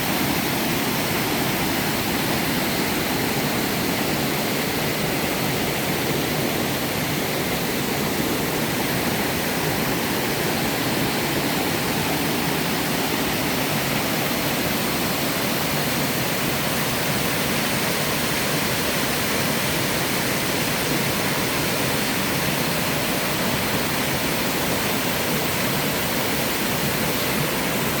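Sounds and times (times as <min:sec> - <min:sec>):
waterfall pouring over rock: 0:00.0 - 0:28.0.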